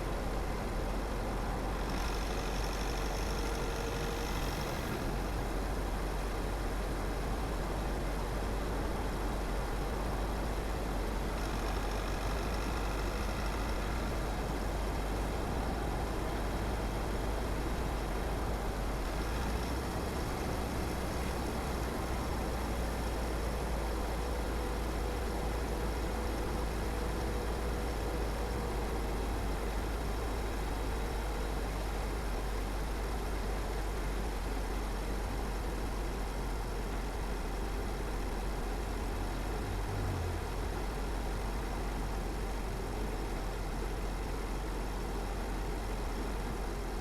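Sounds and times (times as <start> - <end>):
car engine rumble: 0.0 - 47.0.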